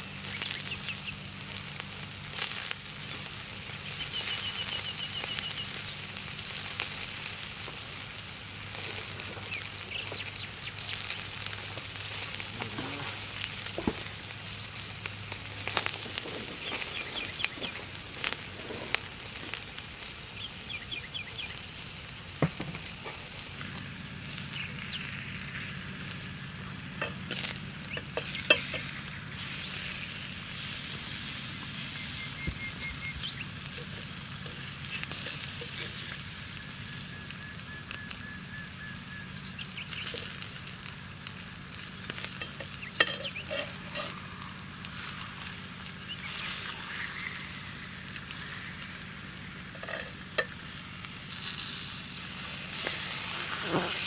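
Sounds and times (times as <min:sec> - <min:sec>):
meat sizzling on hot stone: 0:00.0 - 0:54.0.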